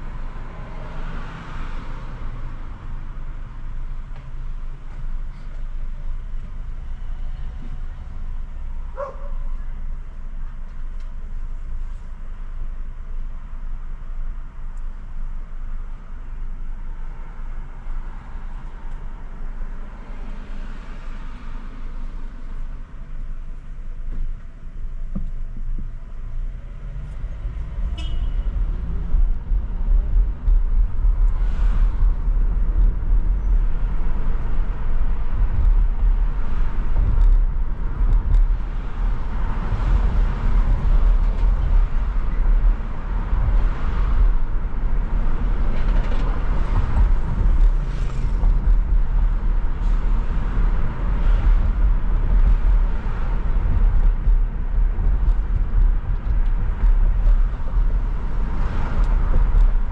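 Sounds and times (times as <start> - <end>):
car road and engine rumble: 0.0 - 59.9
surrounding traffic: 0.0 - 59.9.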